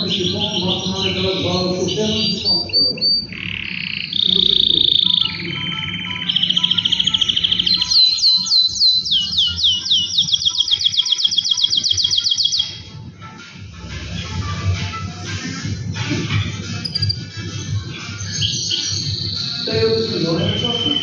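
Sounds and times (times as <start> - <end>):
canary singing trills: 0.0 - 12.9, 16.4 - 21.0.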